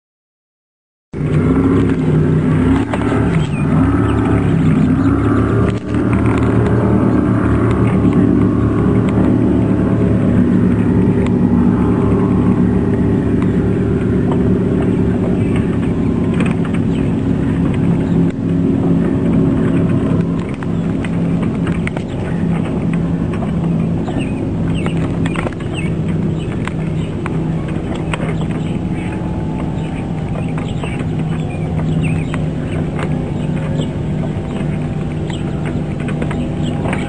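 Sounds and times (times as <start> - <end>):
motor running steadily: 1.2 - 37.0.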